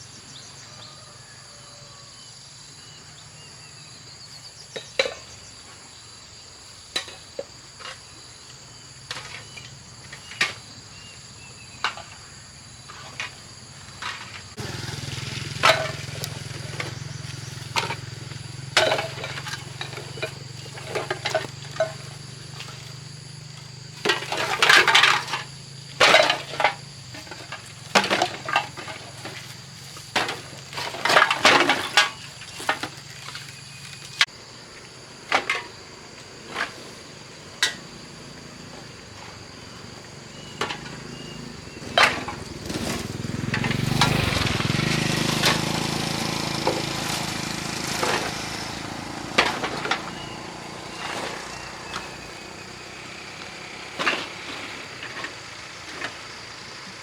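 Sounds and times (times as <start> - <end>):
insect chirring: 0.0 - 57.0.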